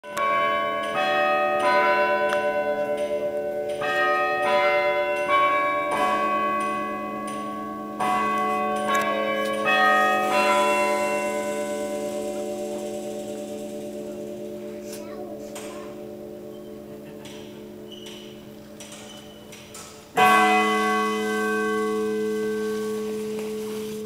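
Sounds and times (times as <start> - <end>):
tower clock bells chiming melody: 0.0 - 24.0.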